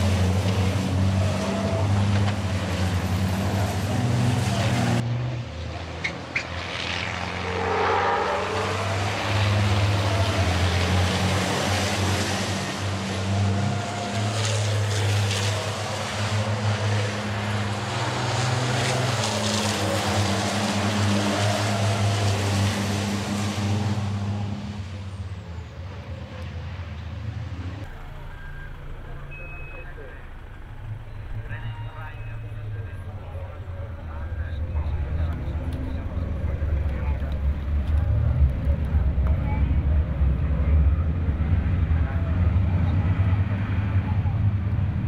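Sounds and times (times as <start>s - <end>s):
racing truck diesel engines: 0.0s - 45.0s.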